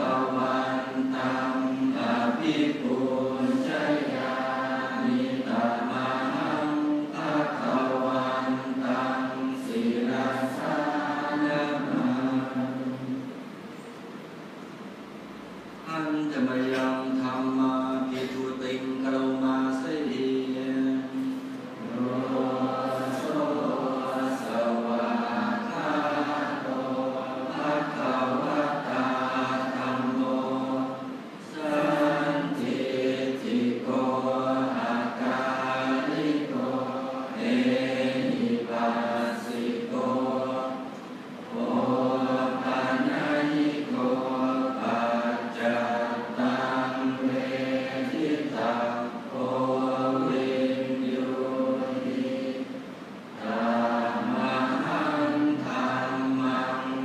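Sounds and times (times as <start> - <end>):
monks chanting in unison: 0.0 - 13.4, 15.9 - 57.0.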